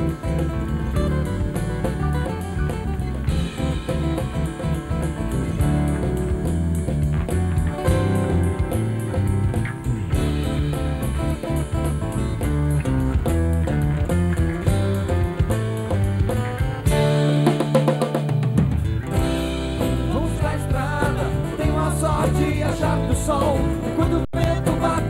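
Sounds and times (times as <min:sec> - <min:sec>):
acoustic guitars strummed: 0:00.0 - 0:25.0
bass guitar: 0:00.0 - 0:25.0
drum kit steady beat: 0:00.0 - 0:25.0
keyboard: 0:00.0 - 0:25.0.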